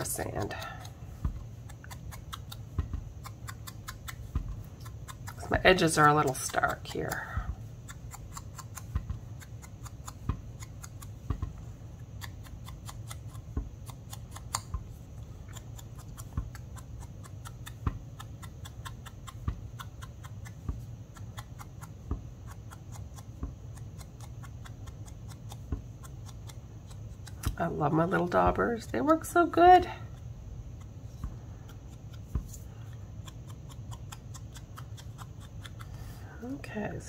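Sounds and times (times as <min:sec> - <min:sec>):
sponge dabbing taps: 0:00.0 - 0:28.6, 0:30.8 - 0:32.6.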